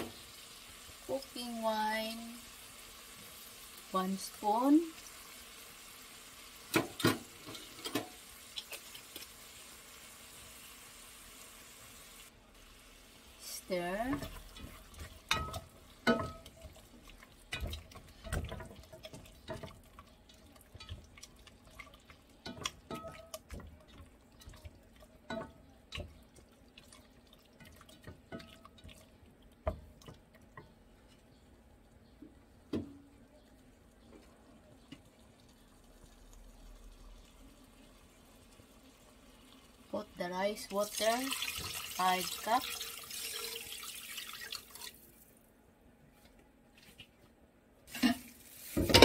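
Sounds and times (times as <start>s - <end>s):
meat sauteing in oil: 0.0s - 30.8s, 34.3s - 45.0s, 48.0s - 49.0s.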